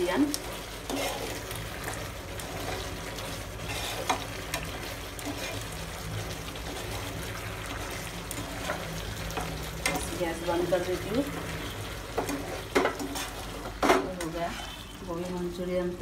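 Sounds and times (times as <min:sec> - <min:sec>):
gravy sizzling and bubbling: 0:00.0 - 0:16.0
spatula scraping a pan: 0:00.6 - 0:10.1, 0:11.4 - 0:15.0.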